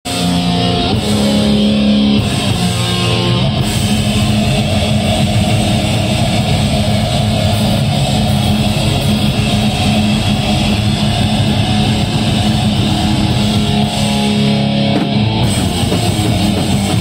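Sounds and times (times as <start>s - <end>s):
live rock band playing: 0.1s - 17.0s.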